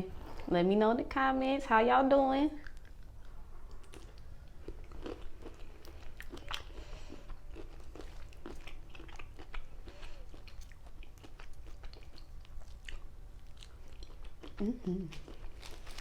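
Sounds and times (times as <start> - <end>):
low steady hum: 0.0 - 16.0
wet chewing and mouth smacks: 2.6 - 16.0.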